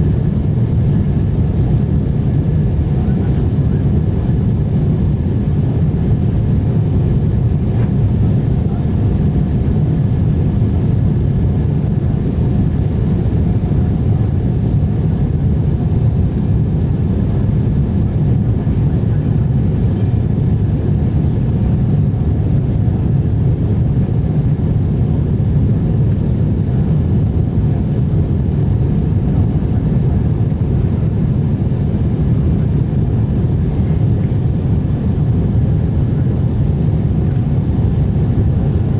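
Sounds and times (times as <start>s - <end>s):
jet engine low rumble: 0.0s - 38.9s.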